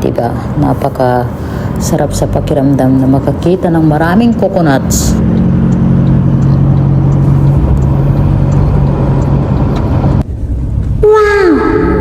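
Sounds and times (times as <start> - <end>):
road and tyre noise: 0.0 - 12.0
vehicle engine hum: 0.0 - 12.0.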